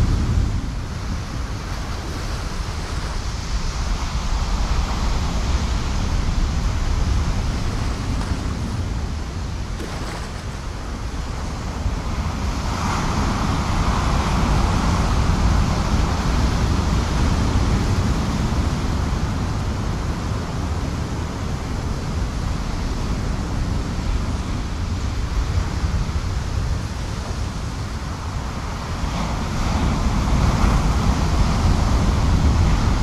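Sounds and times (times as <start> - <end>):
ocean surf washing: 0.0 - 33.0
wind rumbling on microphone: 0.0 - 33.0.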